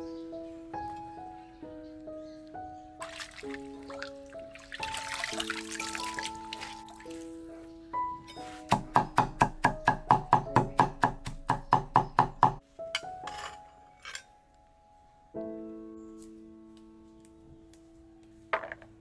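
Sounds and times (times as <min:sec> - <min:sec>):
piano music: 0:00.0 - 0:18.6.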